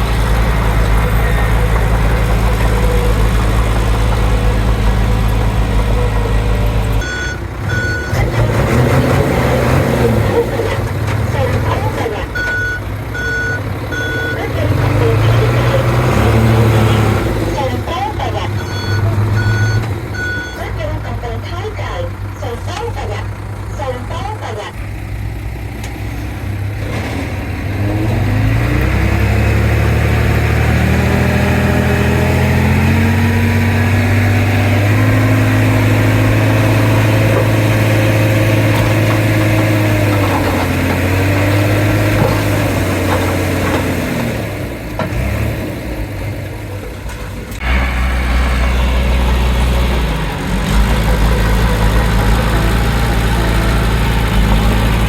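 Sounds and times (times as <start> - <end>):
heavy diesel engine revving: 0.0 - 55.0.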